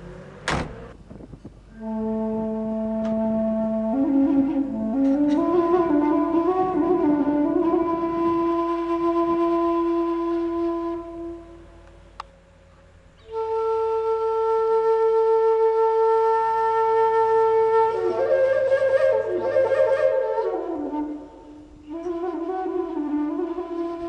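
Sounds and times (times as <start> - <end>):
solo flute melody: 1.7 - 12.5, 13.2 - 24.0.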